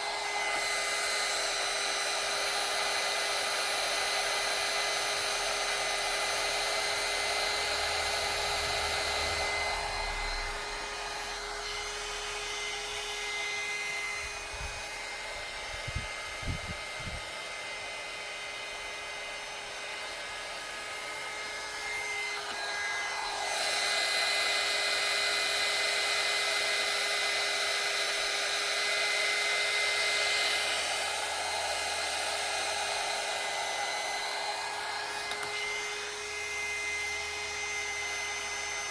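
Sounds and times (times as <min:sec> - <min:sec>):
heat gun blowing: 0:00.0 - 0:38.9
heat gun whine: 0:00.0 - 0:38.9.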